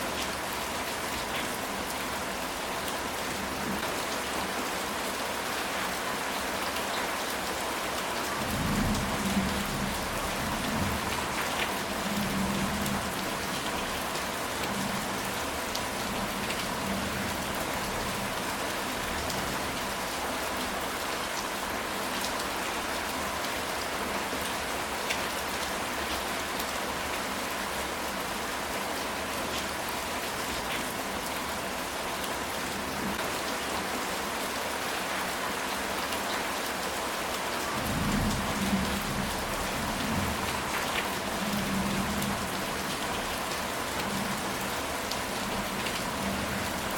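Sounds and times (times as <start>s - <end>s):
rain on a tile roof: 0.0s - 46.9s.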